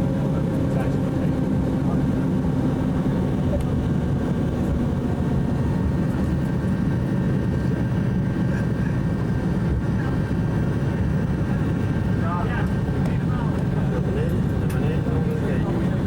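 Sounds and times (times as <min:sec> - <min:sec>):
propeller airliner engines droning: 0:00.0 - 0:16.0.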